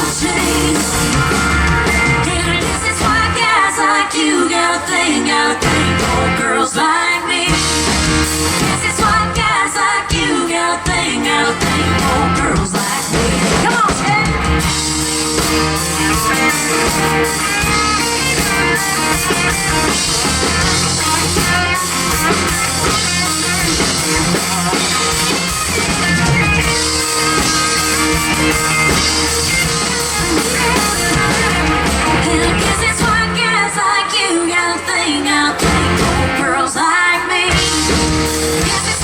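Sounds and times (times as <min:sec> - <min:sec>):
person singing: 0:00.0 - 0:14.5, 0:16.0 - 0:39.0
live country-pop band: 0:00.0 - 0:39.0.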